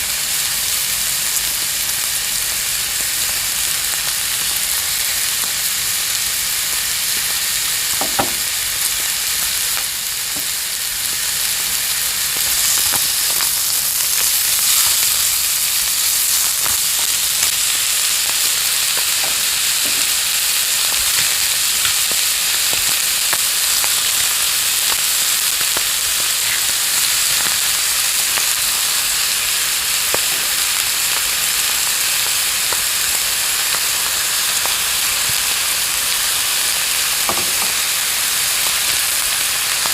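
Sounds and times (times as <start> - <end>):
lettuce sizzling in a frying pan: 0.0 - 39.9.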